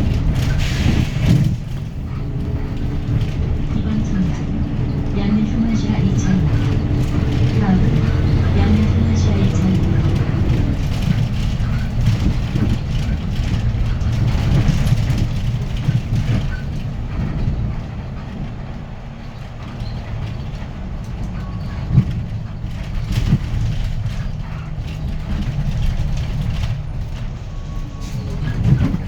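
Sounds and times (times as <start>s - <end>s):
bus engine and road rumble: 0.0s - 29.0s.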